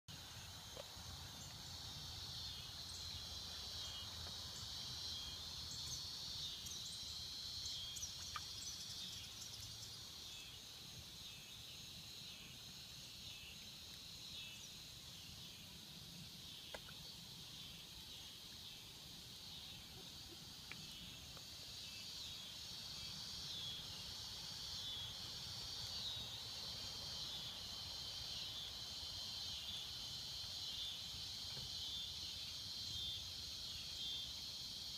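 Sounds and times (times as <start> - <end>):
cicadas buzzing: 0.1 - 34.9.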